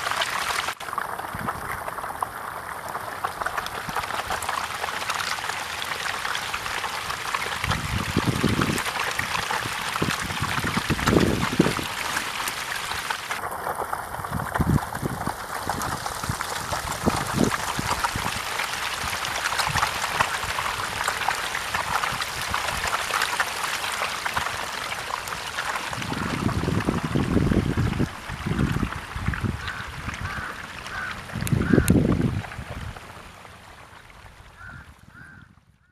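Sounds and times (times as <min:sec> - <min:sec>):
fish splashing at water surface: 0:00.0 - 0:31.8.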